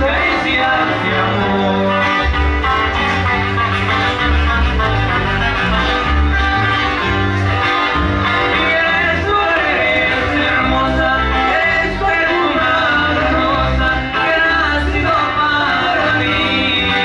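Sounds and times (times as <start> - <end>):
live band dance music: 0.0 - 17.0.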